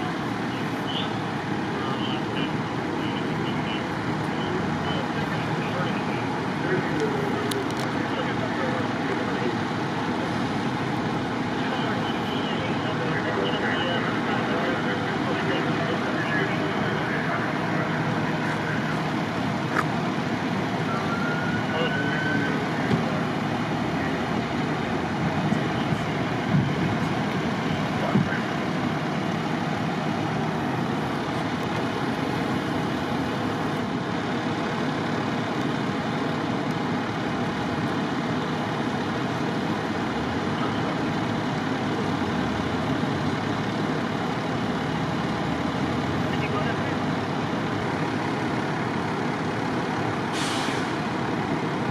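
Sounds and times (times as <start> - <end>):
road traffic: 0.0 - 51.9
trucks idling: 0.0 - 51.9.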